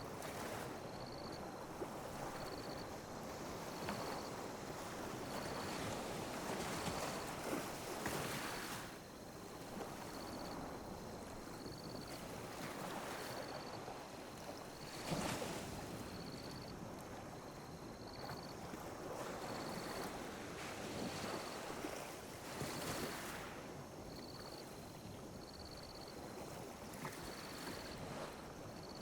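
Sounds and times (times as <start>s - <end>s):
small waves lapping on beach: 0.0s - 29.0s.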